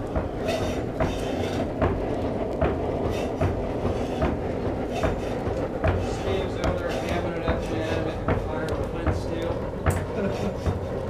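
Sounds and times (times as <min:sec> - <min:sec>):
forge fire rumbling rush: 0:00.0 - 0:11.0
regular knocking: 0:00.0 - 0:11.0.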